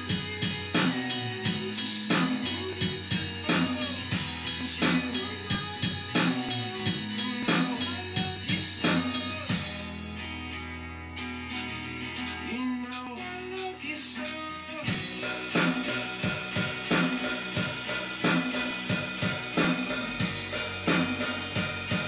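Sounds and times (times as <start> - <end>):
backing song with guitar: 0.0 - 22.0.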